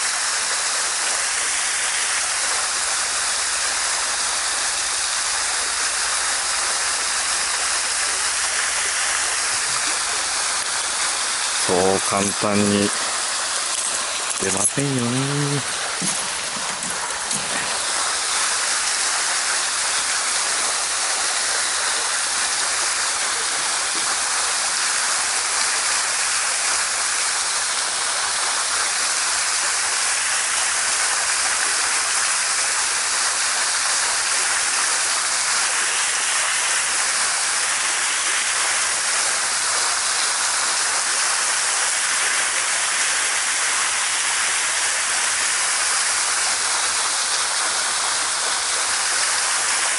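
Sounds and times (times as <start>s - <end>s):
small waterfall rushing: 0.0s - 49.9s.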